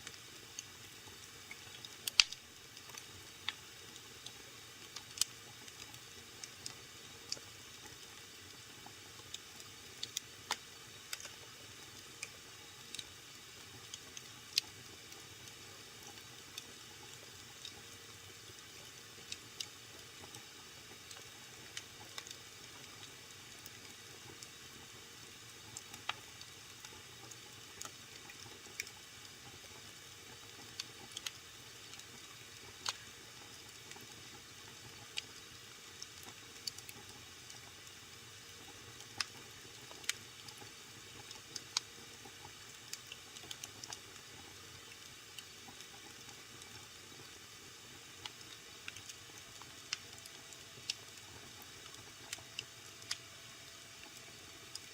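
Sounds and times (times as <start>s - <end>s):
wood fire crackling: 0.0s - 24.8s, 25.6s - 53.2s, 53.9s - 54.9s.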